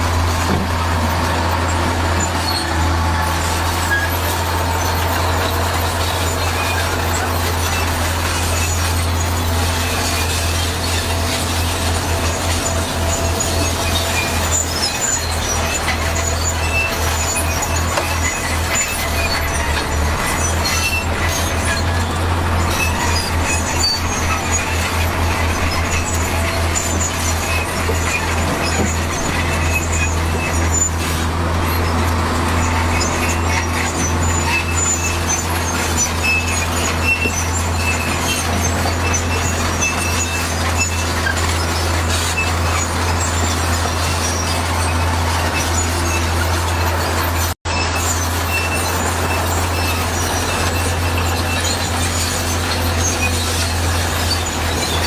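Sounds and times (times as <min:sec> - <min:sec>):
deep diesel engine drone: 0:00.0 - 0:55.0
metallic squeaks and clinks: 0:00.0 - 0:55.0.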